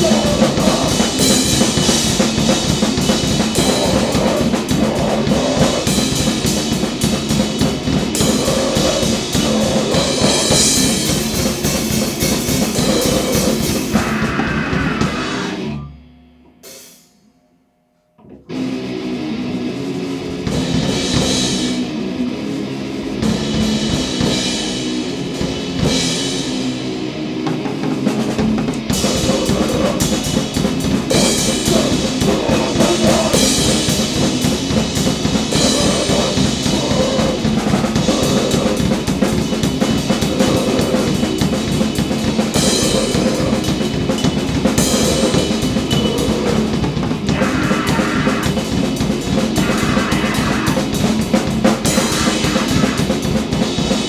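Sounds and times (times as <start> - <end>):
fast dense drumming: 0.0 - 15.6, 20.4 - 54.0
distorted grind band music: 0.0 - 15.8, 18.5 - 54.0.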